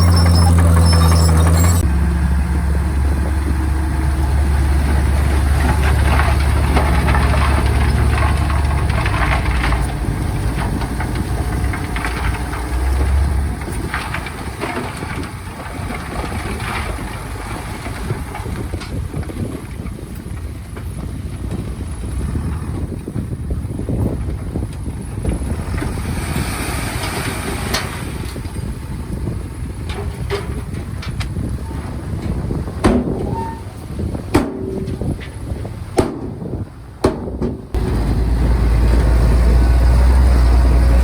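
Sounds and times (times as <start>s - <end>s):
clanks and rattles: 0.0s - 2.0s, 3.2s - 41.0s
bulldozer diesel engine running: 0.0s - 41.0s.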